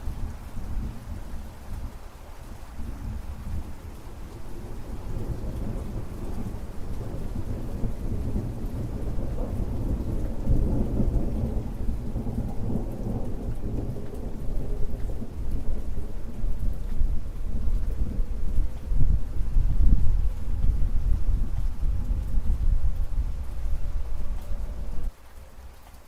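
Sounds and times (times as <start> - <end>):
rain falling: 0.0 - 26.0
rolling thunder: 2.8 - 25.1.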